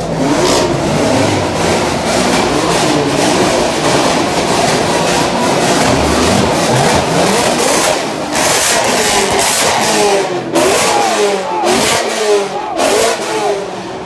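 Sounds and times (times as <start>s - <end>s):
car engines revving: 0.0s - 14.0s
cars running steadily: 0.0s - 14.0s.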